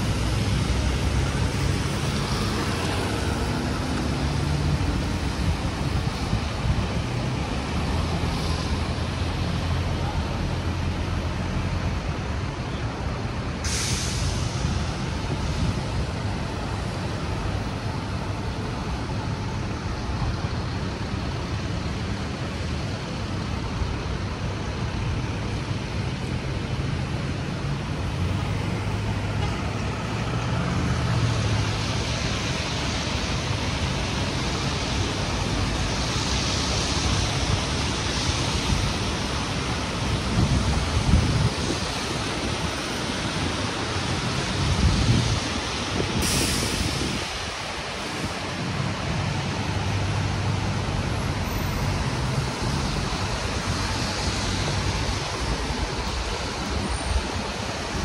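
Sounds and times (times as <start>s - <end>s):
heavy vehicle engine hum: 0.0s - 58.0s
steady traffic hiss: 0.0s - 58.0s.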